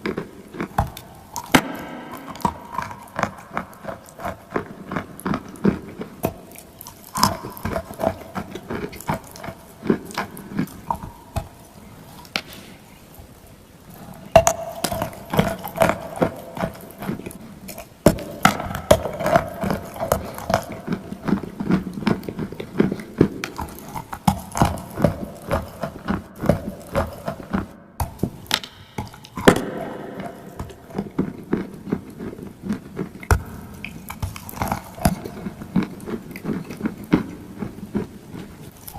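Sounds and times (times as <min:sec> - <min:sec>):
crunching and chewing clay: 0:00.0 - 0:38.9.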